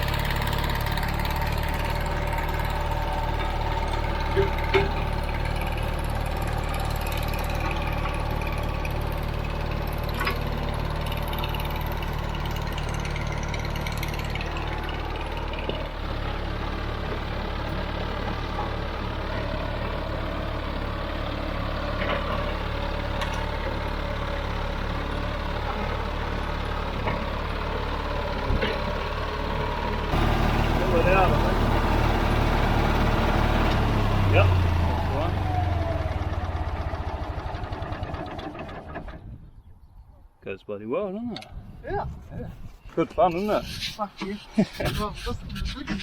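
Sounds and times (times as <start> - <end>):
bulldozer diesel engine running: 0.0 - 39.4.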